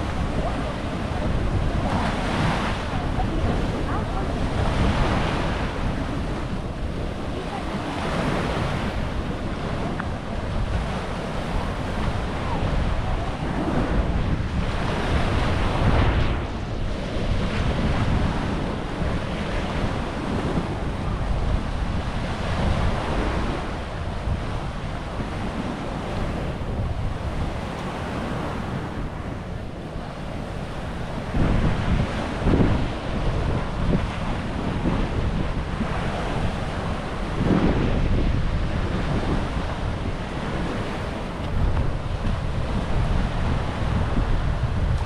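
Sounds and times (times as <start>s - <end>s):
small waves washing onto sand: 0.0s - 45.0s
wind buffeting microphone: 0.0s - 45.0s.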